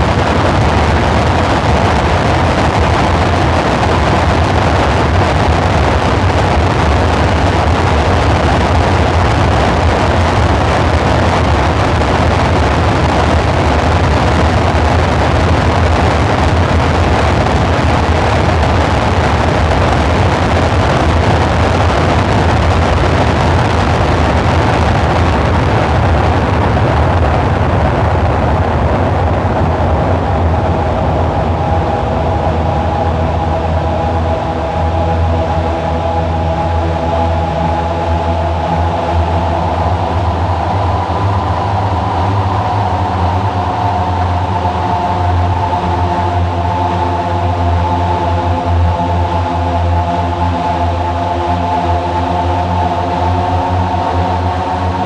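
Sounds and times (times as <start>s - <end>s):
dark ambient synthesizer drone: 0.0s - 55.0s.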